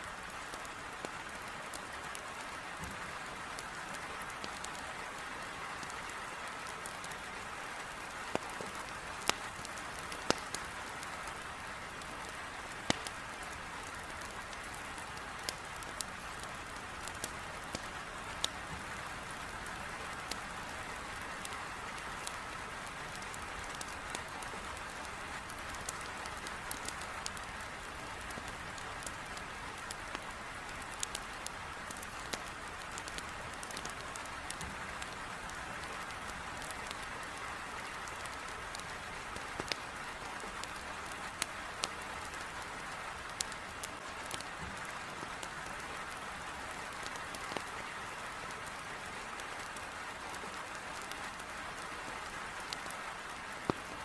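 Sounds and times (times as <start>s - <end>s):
firewood crackling and popping: 0.0s - 54.0s
heavy rain on window glass: 0.1s - 54.0s.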